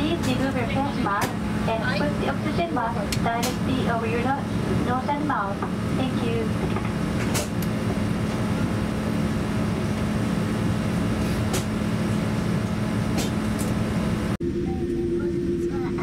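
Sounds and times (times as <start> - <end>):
aircraft cabin rumble: 0.0 - 16.0
engine and air system hum: 0.0 - 16.0.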